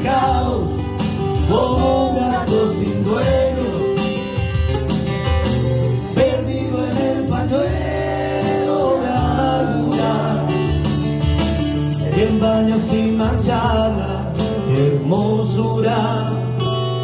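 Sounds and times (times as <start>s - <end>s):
man singing a slow ballad: 0.0s - 4.4s, 6.0s - 10.9s, 11.9s - 17.0s
acoustic guitars playing: 0.0s - 17.0s
percussion steady beat: 0.0s - 17.0s.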